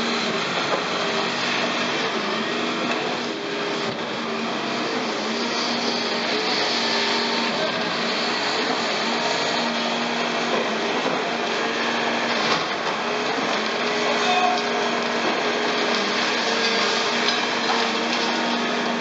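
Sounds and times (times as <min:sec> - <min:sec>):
excavator diesel engine under load: 0:00.0 - 0:19.0
hydraulics working: 0:00.0 - 0:19.0.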